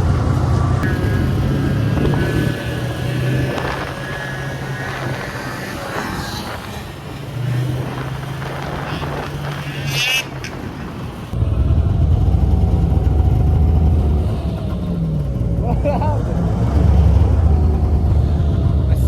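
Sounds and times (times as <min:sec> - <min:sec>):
snowmobile engines running: 0:00.0 - 0:19.0.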